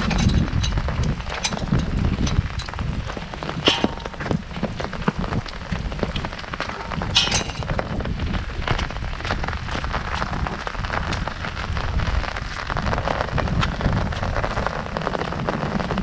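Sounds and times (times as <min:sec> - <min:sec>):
heavy rain on an umbrella: 0:00.0 - 0:16.0.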